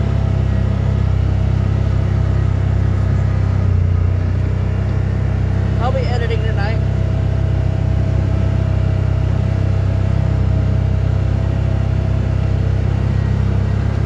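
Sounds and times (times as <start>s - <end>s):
faint steady whine: 0.0s - 14.0s
vehicle engine droning: 0.0s - 14.0s.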